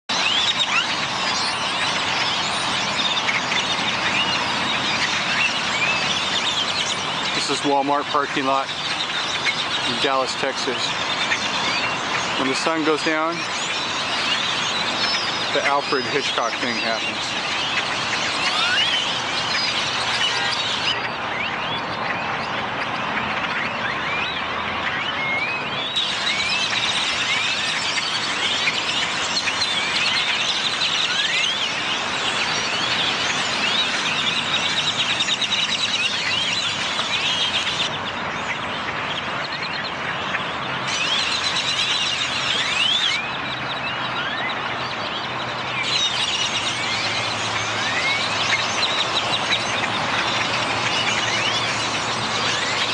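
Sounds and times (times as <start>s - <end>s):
flock of birds calling: 0.1s - 52.9s.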